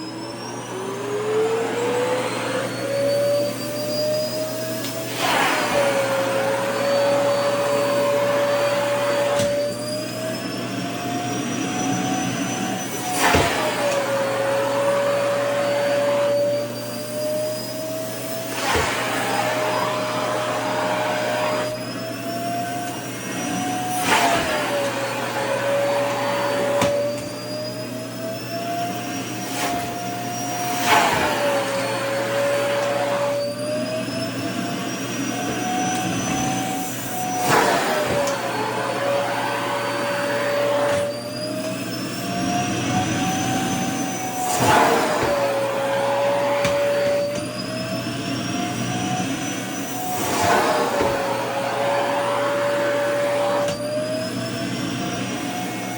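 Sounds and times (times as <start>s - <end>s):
vacuum cleaner running: 0.0s - 55.9s
fabric sucked at vacuum nozzle: 0.5s - 9.8s, 12.7s - 21.9s, 22.5s - 27.6s, 29.0s - 55.9s.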